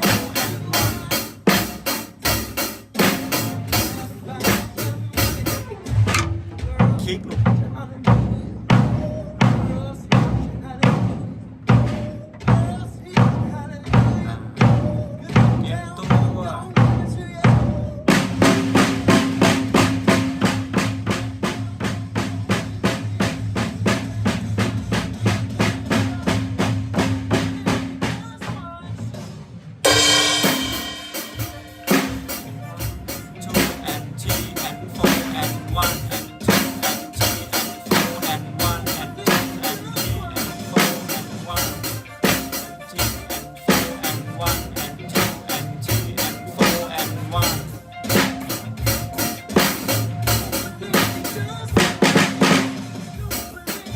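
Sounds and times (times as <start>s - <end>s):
drum kit beat: 0.0s - 53.9s.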